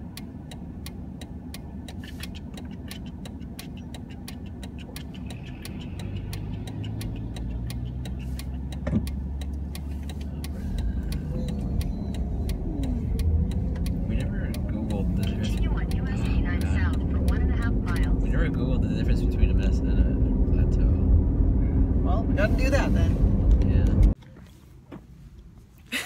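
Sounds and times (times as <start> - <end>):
turn signal ticking: 0.0 - 24.4
truck rumble: 0.0 - 24.9
car low hum: 0.0 - 26.0.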